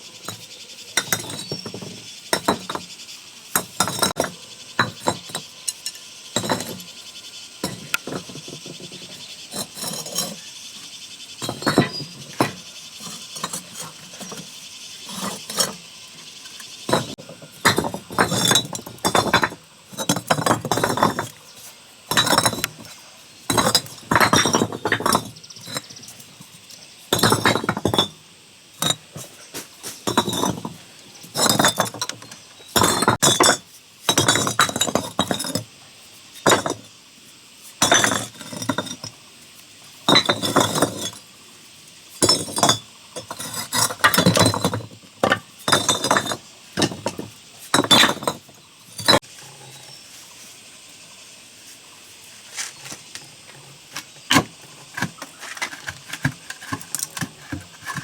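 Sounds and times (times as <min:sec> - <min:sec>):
hand tools scraping masonry: 0:01.0 - 0:02.8, 0:03.6 - 0:06.9, 0:07.6 - 0:10.5, 0:11.4 - 0:15.9, 0:16.9 - 0:26.4, 0:27.1 - 0:28.2, 0:28.8 - 0:35.7, 0:36.4 - 0:36.9, 0:37.8 - 0:39.2, 0:40.0 - 0:41.2, 0:42.2 - 0:50.2, 0:52.5 - 0:58.0.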